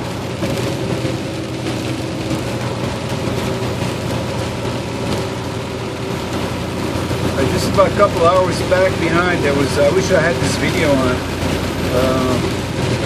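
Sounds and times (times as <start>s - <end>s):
diesel engine low hum: 0.0s - 13.0s
rain on windshield: 0.0s - 13.0s
tyre noise on wet road: 0.0s - 13.0s.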